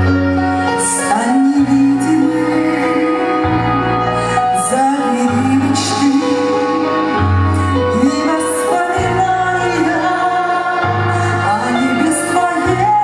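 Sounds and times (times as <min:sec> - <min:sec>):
instrumental accompaniment with bass: 0:00.0 - 0:13.0
woman singing into a microphone: 0:00.3 - 0:13.0.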